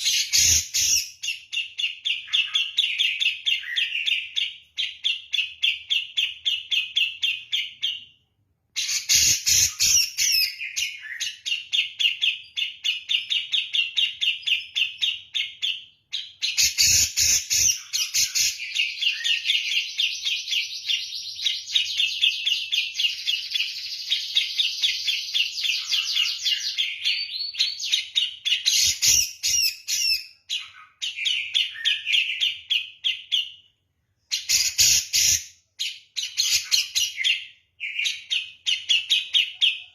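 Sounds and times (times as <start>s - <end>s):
bird chirping rapidly: 0.0s - 8.2s, 8.8s - 39.9s.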